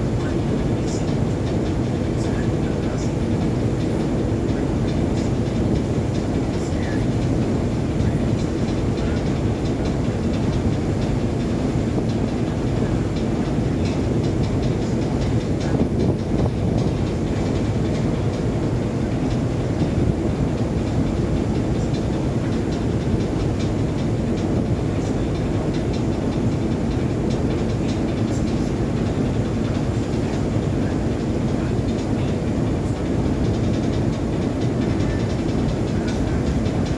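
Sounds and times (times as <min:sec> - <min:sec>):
ship engine drone: 0:00.0 - 0:36.9
water rushing along hull: 0:00.0 - 0:36.9.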